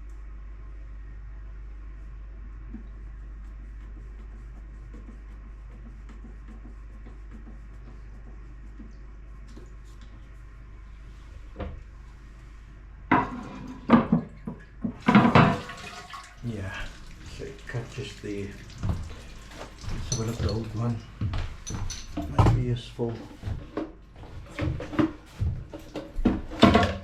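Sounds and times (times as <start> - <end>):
steady low hum: 0.0 - 26.5.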